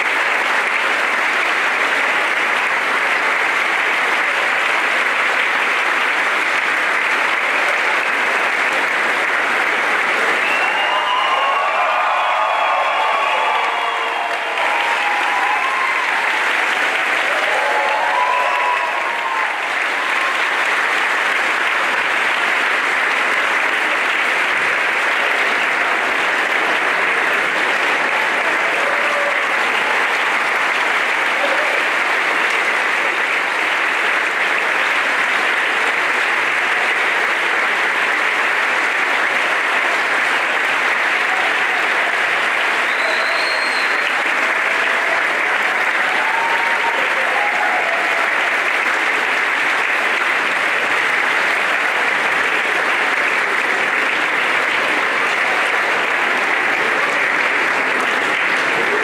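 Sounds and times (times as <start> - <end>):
audience applause: 0.0 - 59.0.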